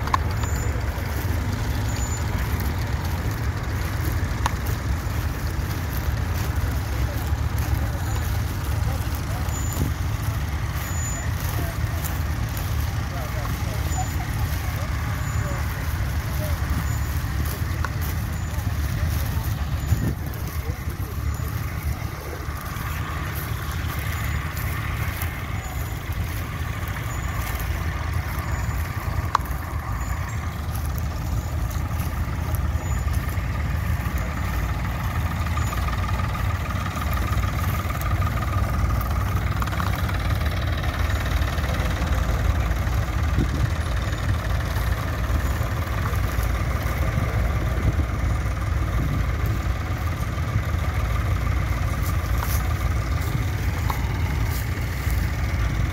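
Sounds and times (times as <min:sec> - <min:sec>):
tractor engine rumbling: 0:00.0 - 0:55.9.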